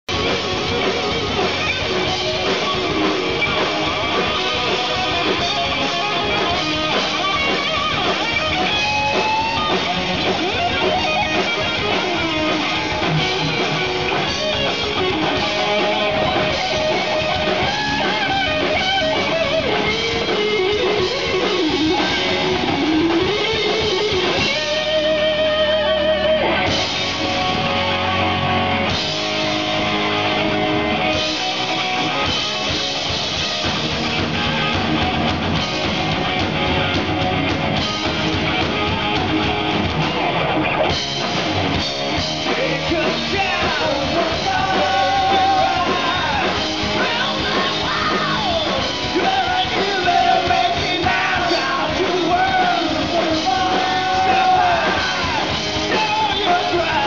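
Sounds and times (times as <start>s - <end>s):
live rock band playing: 0.0s - 57.0s
electric guitar bending notes: 0.1s - 57.0s.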